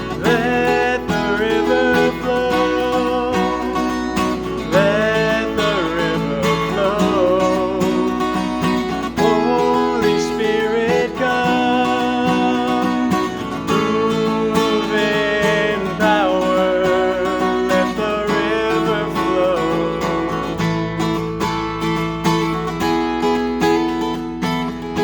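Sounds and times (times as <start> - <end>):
worship song on acoustic guitar: 0.0 - 25.0.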